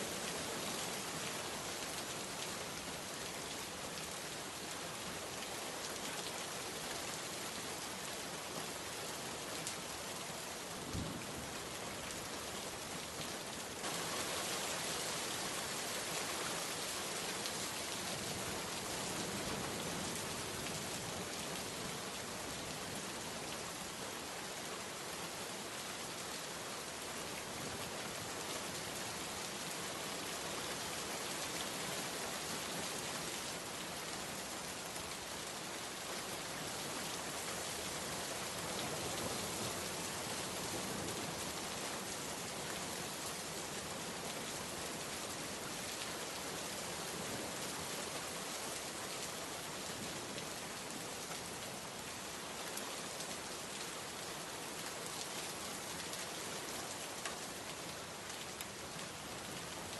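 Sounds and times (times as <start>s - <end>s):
heavy rain falling: 8.7s - 24.3s, 26.5s - 59.9s.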